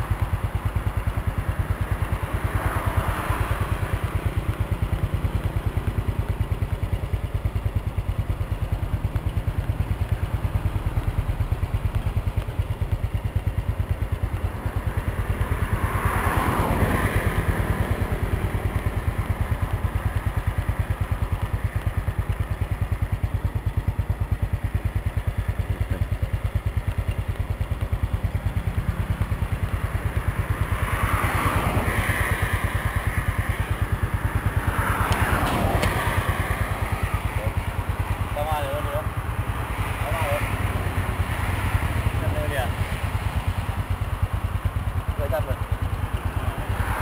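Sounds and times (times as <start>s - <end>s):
motorcycle engine idling: 0.0s - 47.0s
passing traffic: 0.0s - 47.0s.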